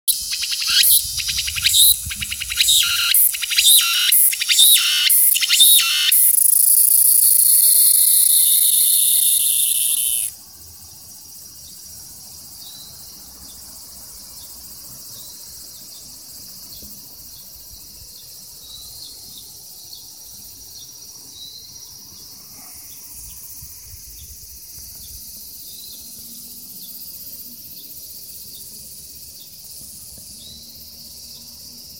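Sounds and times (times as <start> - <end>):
cicada singing: 0.0 - 31.9.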